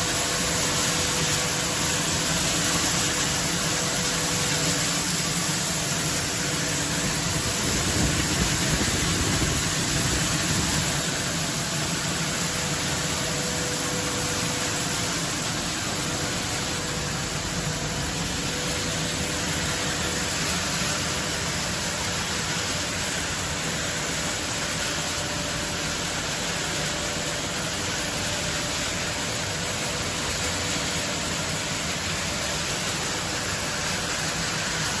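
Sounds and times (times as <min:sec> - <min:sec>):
machinery running: 0:00.0 - 0:35.0.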